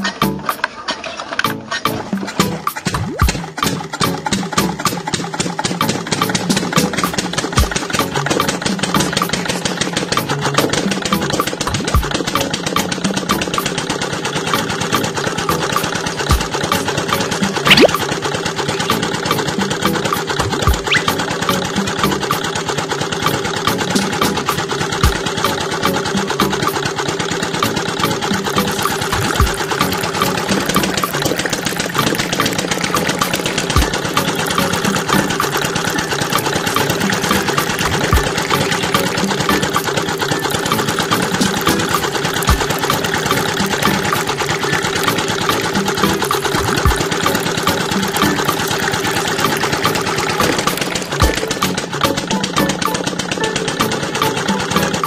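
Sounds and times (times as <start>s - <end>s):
sugarcane crusher clatter: 0.0s - 55.0s
small motor running: 2.7s - 55.0s.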